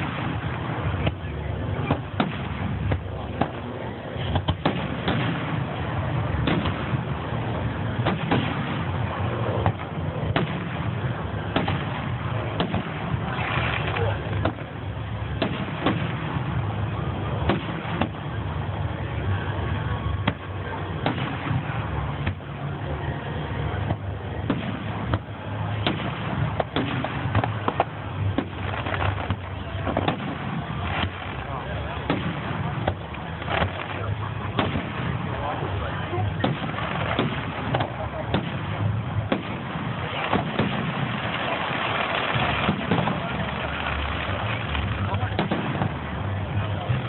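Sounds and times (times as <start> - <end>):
continuous low rumble: 0.0 - 47.0
fireworks bangs: 0.0 - 47.0.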